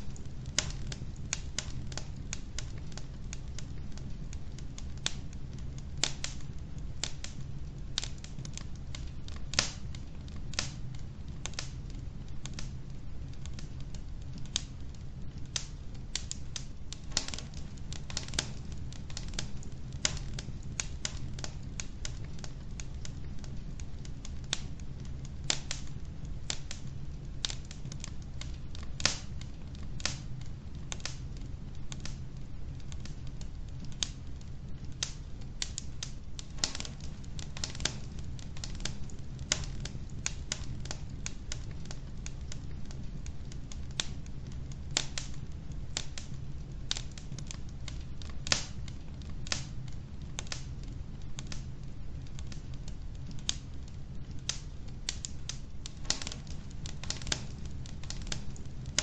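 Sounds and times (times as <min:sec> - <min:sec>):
low rumble of fire: 0:00.0 - 0:59.0
wood crackling and popping in fire: 0:00.0 - 0:59.0.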